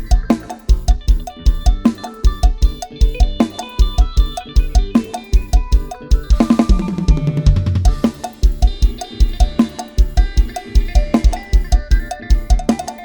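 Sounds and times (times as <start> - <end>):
drum fill: 0.0 - 13.0
instrumental music with drum kit: 0.0 - 13.0.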